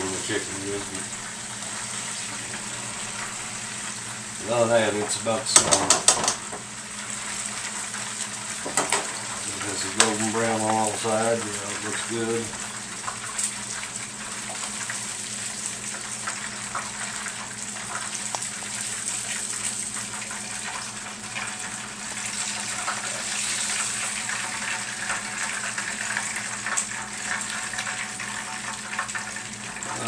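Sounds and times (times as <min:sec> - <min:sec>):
meat frying in hot grease: 0:00.0 - 0:30.0.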